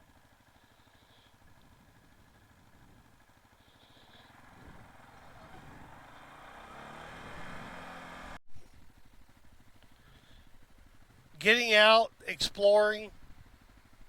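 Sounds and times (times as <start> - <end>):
atv engine accelerating: 0.0 - 14.0.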